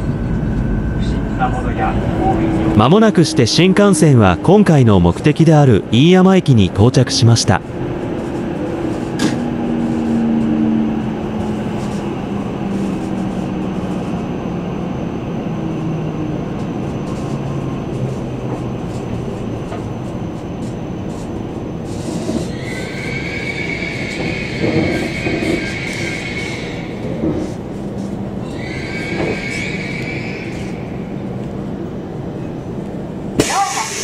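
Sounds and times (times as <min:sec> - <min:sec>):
train running noise: 0:00.0 - 0:34.0.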